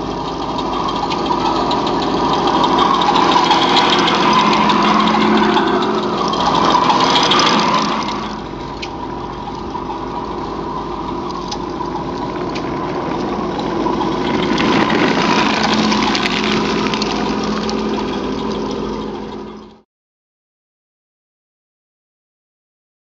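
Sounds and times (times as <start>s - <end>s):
remote-control vehicles whining: 0.0s - 19.8s.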